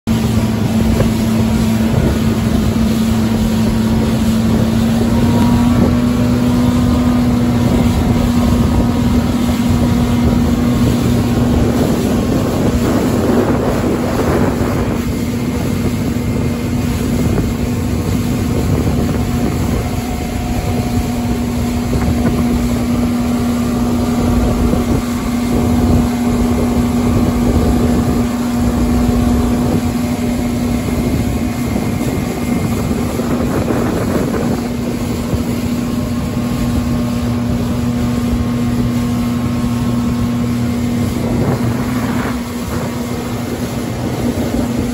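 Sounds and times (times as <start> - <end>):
outboard motor humming: 0.0 - 44.9
water rushing along hull: 0.0 - 44.9
wind buffeting microphone: 0.1 - 44.9.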